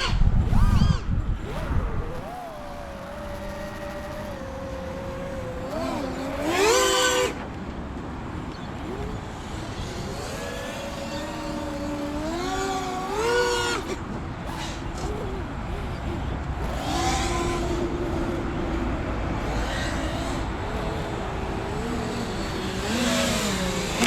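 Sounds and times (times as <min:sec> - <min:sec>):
drone motors and propellers whining: 0:00.0 - 0:24.0.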